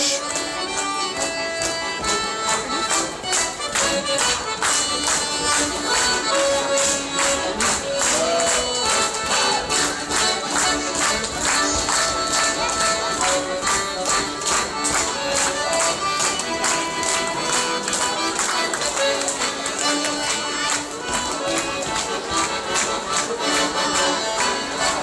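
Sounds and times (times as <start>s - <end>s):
accordion playing lively tune: 0.0s - 25.0s.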